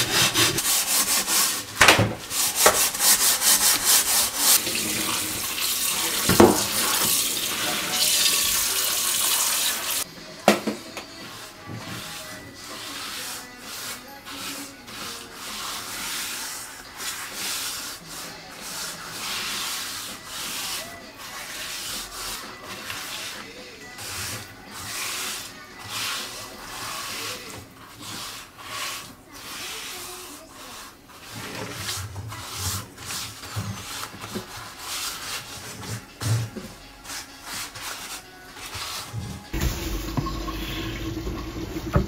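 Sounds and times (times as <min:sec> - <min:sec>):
gritty paste scrubbing a pan: 0:00.0 - 0:10.1, 0:11.1 - 0:42.0.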